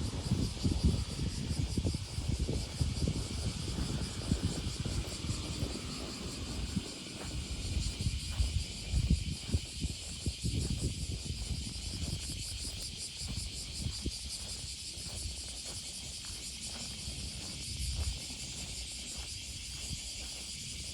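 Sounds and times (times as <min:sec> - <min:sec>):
cicadas buzzing: 0:00.0 - 0:20.9
wind rumble on microphone: 0:00.0 - 0:20.9.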